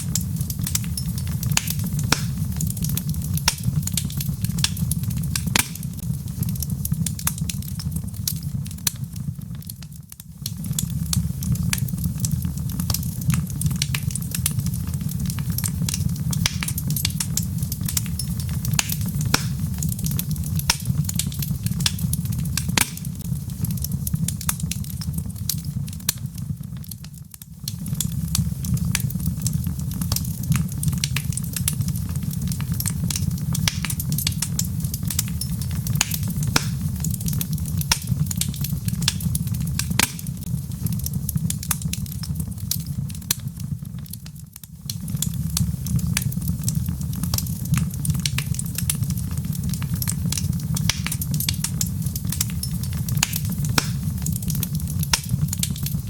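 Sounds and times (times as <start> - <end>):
log fire crackling and popping: 0.0 - 56.0
low fire rumble: 0.0 - 56.0.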